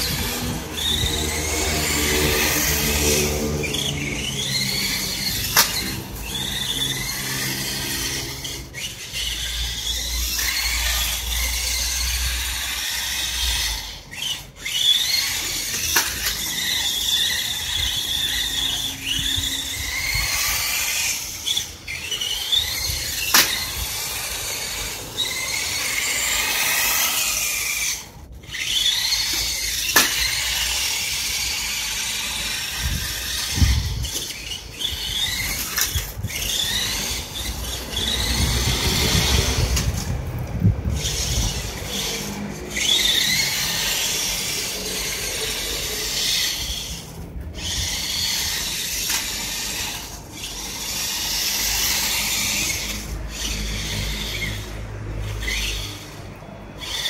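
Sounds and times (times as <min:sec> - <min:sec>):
electric motor and gears whining: 0:00.0 - 0:57.0.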